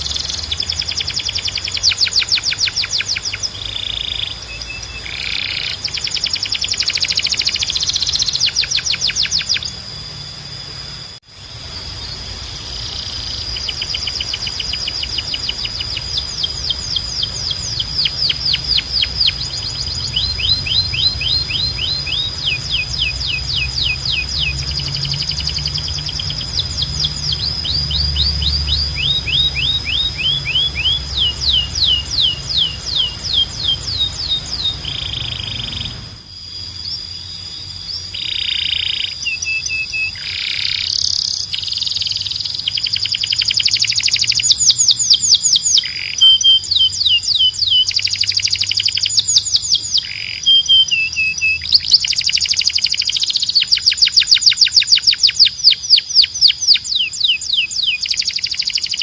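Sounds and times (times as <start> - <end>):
canary singing trills: 0.0 - 59.0
low background hum: 0.0 - 59.0.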